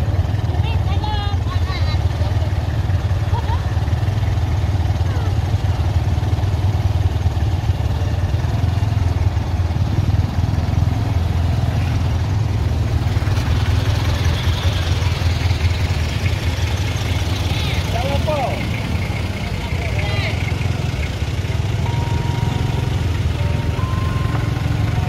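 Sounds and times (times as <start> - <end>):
off-road vehicle engines rumbling: 0.0 - 25.0.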